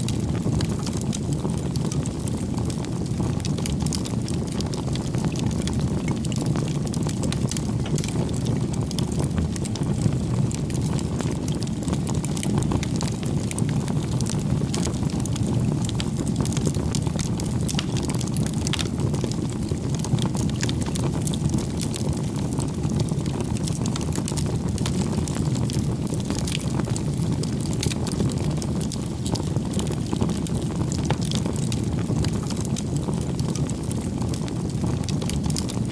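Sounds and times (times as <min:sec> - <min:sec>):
burning wood crackling and popping: 0:00.0 - 0:35.9
campfire low rumble: 0:00.0 - 0:35.9.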